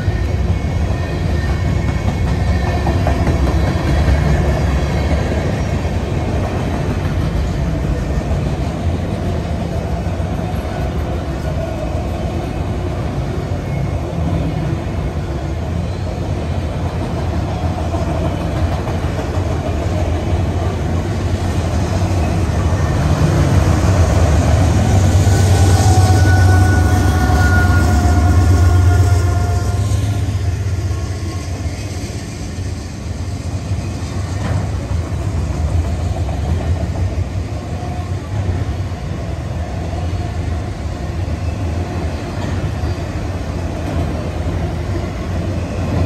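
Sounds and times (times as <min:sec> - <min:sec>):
diesel locomotive engine drone: 0:00.0 - 0:46.0
steel wheels rumbling on rail: 0:00.0 - 0:46.0.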